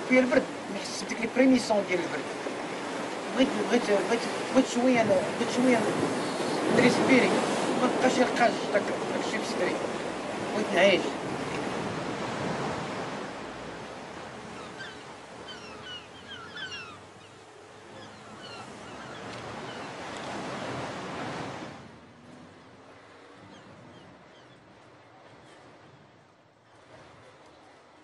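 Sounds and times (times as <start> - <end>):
ocean surf: 0.0 - 28.0
wind: 0.0 - 28.0.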